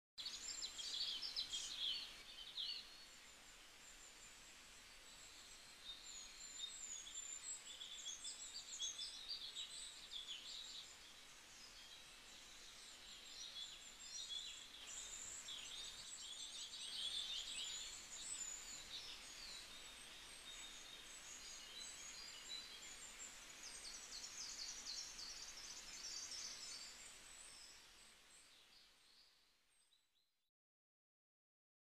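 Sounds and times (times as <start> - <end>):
birds chirping and twittering: 0.2 - 29.9.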